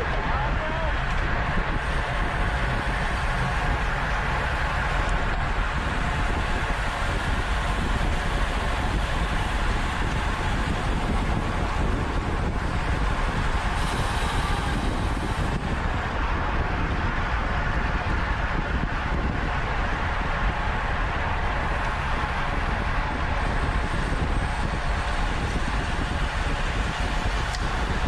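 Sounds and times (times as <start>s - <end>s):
road noise from bike: 0.0s - 28.0s
wind rushing: 0.0s - 28.0s.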